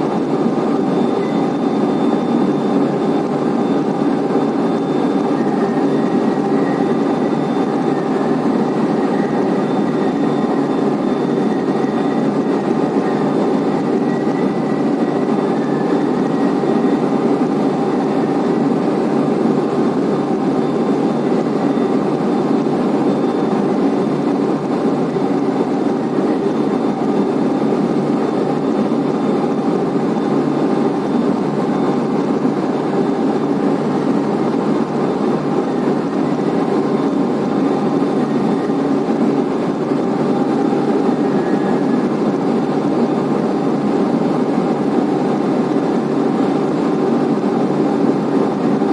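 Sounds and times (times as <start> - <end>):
conveyor mechanical drone: 0.0 - 48.9
faint steady whine: 0.0 - 48.9.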